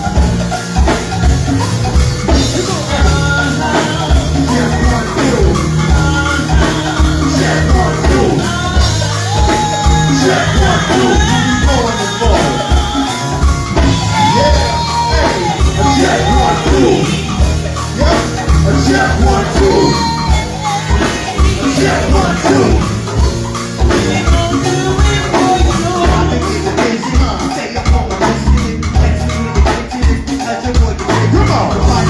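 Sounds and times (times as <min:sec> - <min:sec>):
bass guitar: 0:00.0 - 0:32.0
drum beat: 0:00.0 - 0:32.0
person singing: 0:02.3 - 0:32.0.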